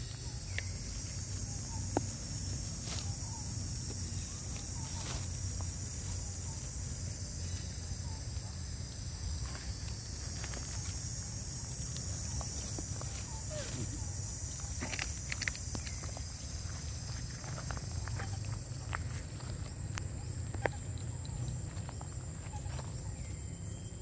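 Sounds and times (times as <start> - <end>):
rustling in dry leaves: 0.0 - 23.4
insects droning: 0.0 - 24.0.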